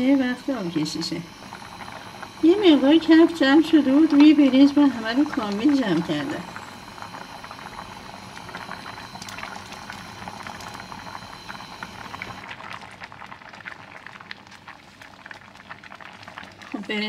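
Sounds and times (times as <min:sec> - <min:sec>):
water boiling and bubbling: 0:00.0 - 0:17.0.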